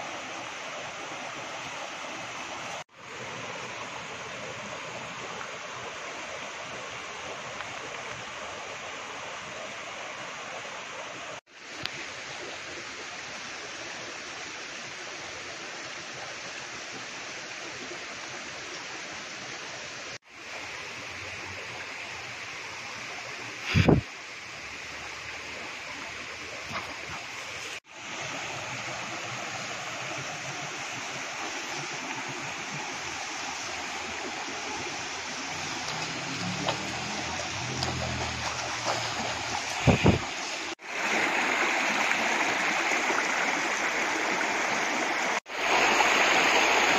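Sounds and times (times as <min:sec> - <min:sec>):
river flowing over stones: 0:00.0 - 0:46.9.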